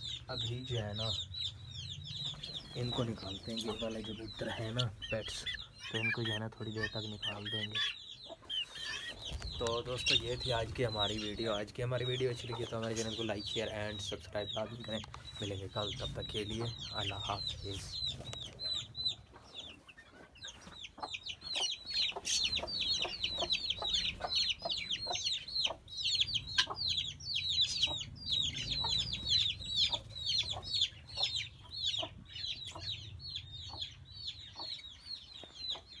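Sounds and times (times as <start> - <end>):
chicks peeping: 0.0 - 36.0
hen clucking: 0.0 - 36.0.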